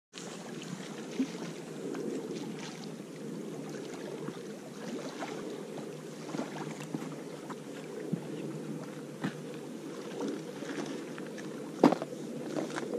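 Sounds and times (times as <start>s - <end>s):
small waves lapping on rocks: 0.2s - 12.9s
wind on microphone: 0.2s - 12.9s.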